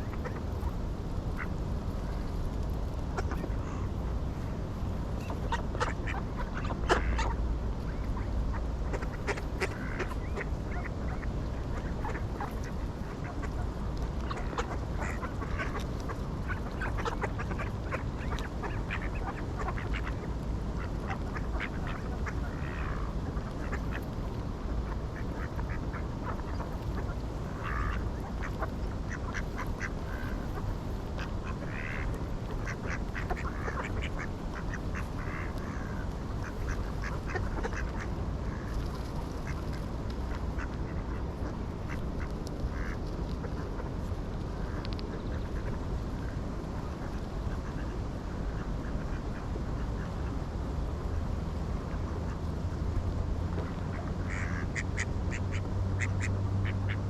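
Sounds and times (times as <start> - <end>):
ducks quacking: 0.0 - 2.3, 3.1 - 4.5, 5.2 - 50.2, 53.5 - 57.0
low background rumble: 0.0 - 57.0.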